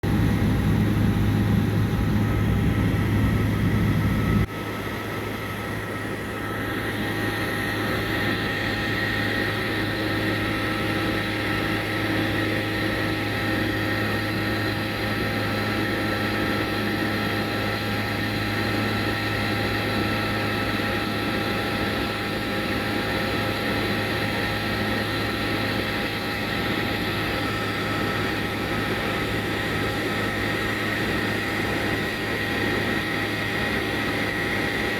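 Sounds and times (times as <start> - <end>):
propeller airplane cabin drone: 0.0 - 34.9.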